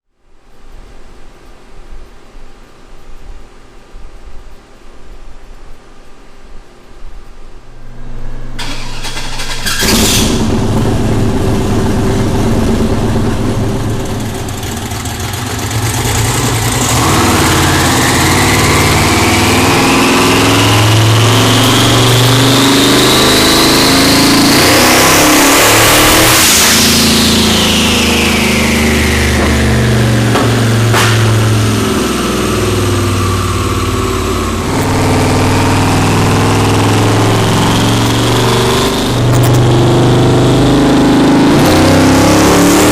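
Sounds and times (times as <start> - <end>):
high whine rising in pitch: 7.7 - 9.1, 9.8 - 42.9
car engine rumbling: 7.9 - 42.9.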